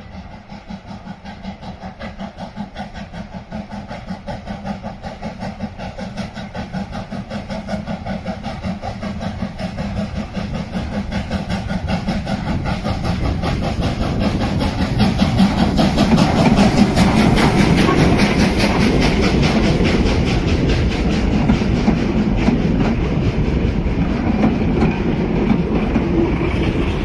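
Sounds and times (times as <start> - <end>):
steam hiss: 0.0 - 27.0
steam locomotive exhaust beats: 0.0 - 27.0.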